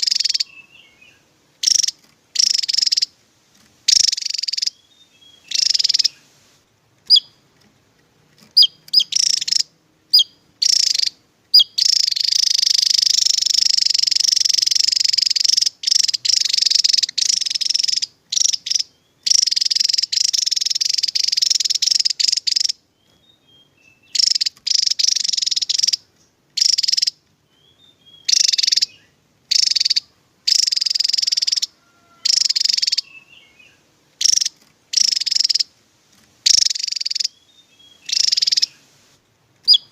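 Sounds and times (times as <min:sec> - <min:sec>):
bird singing buzzy trills: 0:00.0 - 0:03.2, 0:03.9 - 0:06.3, 0:07.0 - 0:07.7, 0:08.4 - 0:35.8, 0:36.4 - 0:38.9, 0:39.6 - 0:39.9.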